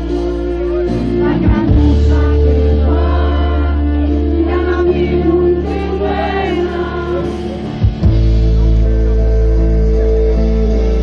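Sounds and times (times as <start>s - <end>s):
crowd singing: 0.0s - 11.0s
live band playing: 0.0s - 11.0s.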